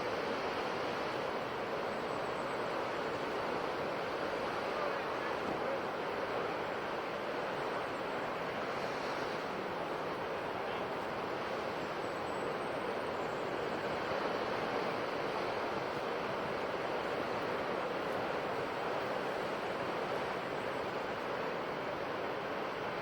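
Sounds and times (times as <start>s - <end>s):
ocean surf washing on shore: 0.0s - 23.0s.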